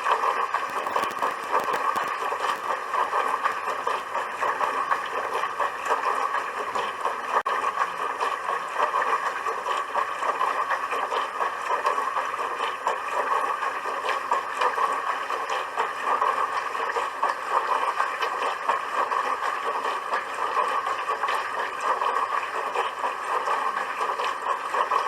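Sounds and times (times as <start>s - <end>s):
dishwasher water rushing: 0.0s - 25.0s.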